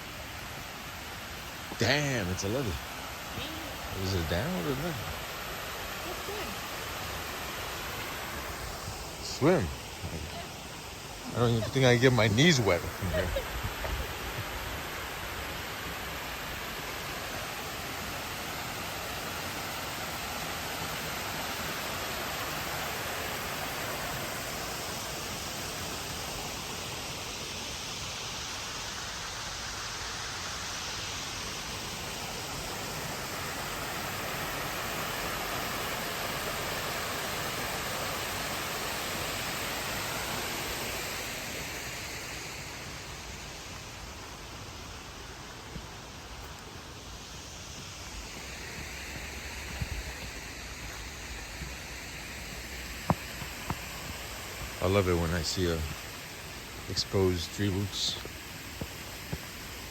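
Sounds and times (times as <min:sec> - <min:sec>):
water rushing over small dam: 0:00.0 - 0:59.9.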